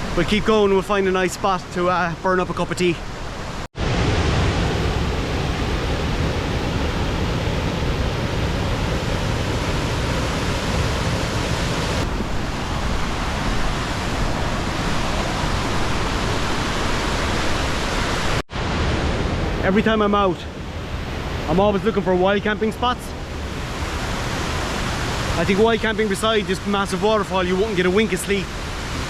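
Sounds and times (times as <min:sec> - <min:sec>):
waterfall roaring: 0:00.0 - 0:19.8, 0:23.2 - 0:29.0.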